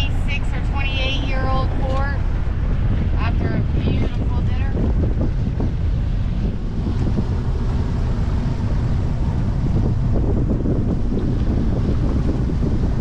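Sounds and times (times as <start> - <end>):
boat motor noise: 0.0 - 13.0
rush of water: 0.0 - 13.0
wind buffeting microphone: 0.0 - 13.0.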